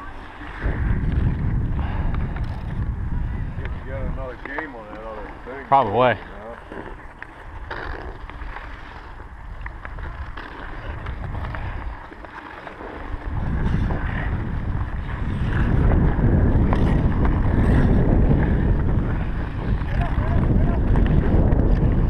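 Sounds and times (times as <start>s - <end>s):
clicks from sticks and skates: 0.0s - 22.0s
wind and motion rumble: 0.0s - 22.0s.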